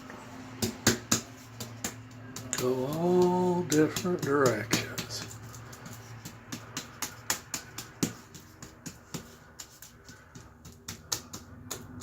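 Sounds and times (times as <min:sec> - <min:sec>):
brush dabbing wet mud: 0:01.3 - 0:12.0.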